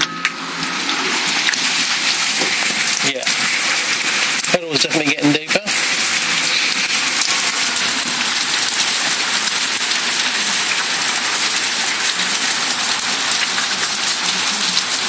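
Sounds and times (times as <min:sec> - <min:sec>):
heavy rain on tarmac: 0:00.0 - 0:15.0.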